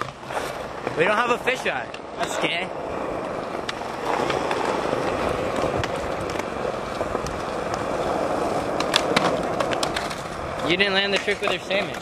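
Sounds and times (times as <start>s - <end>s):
skateboard wheels rolling on concrete: 0.0s - 12.0s.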